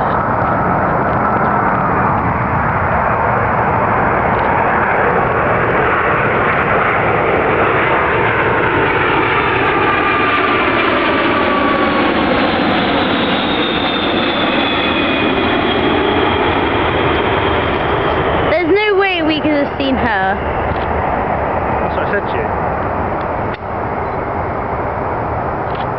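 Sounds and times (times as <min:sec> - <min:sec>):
high whine falling in pitch: 0:00.0 - 0:25.9
jet engine noise: 0:00.0 - 0:25.9.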